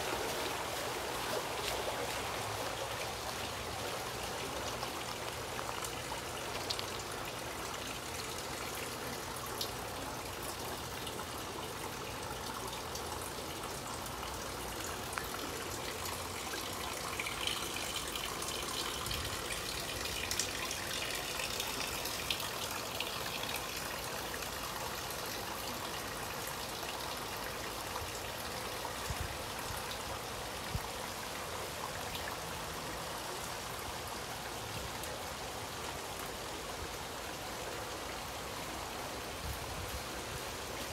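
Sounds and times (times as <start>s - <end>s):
rain and trickling water: 0.0s - 40.9s.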